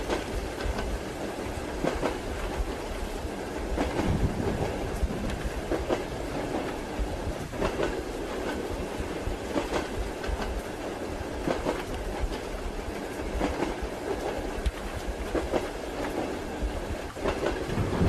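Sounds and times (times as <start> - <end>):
train wheels clacking over rail joints: 0.0 - 3.0, 3.7 - 18.0
train rumbling running noise: 0.0 - 18.0.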